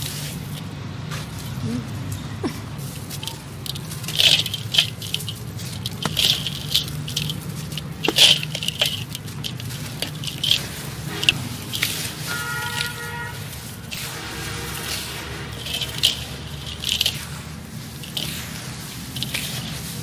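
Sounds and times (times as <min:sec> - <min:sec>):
clay lumps crunching in basin: 0:00.0 - 0:20.0.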